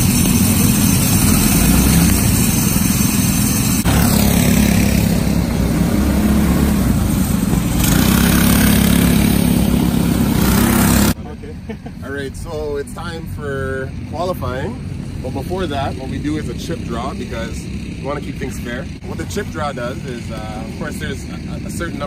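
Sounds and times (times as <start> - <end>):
go-kart engines droning: 0.0 - 22.0.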